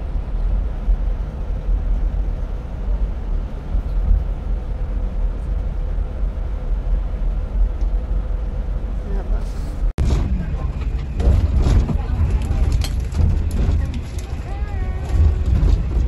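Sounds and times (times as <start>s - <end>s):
bus rumbling in tunnel: 0.0s - 16.0s.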